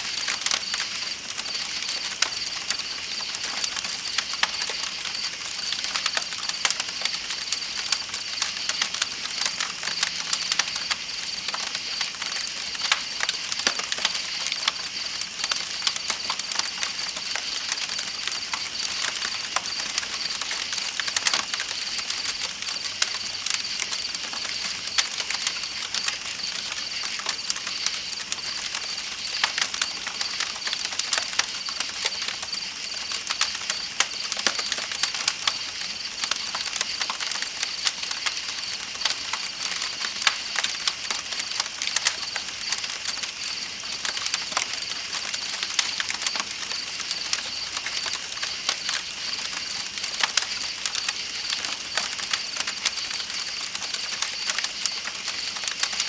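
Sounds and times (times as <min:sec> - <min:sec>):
campfire crackling: 0:00.0 - 0:56.0
night insects chirping: 0:00.0 - 0:56.0.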